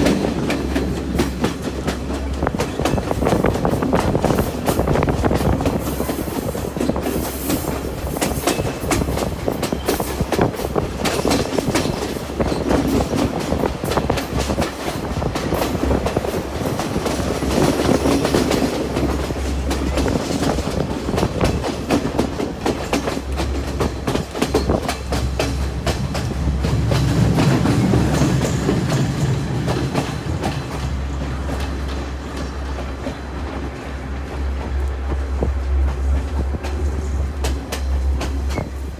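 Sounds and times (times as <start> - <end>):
train rumbling along track: 0.0 - 38.9
wheels clacking over rail joints: 0.0 - 38.9.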